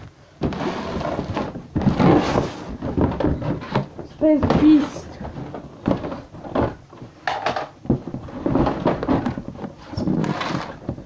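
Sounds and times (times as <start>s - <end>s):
objects knocking and scraping: 0.0s - 11.0s.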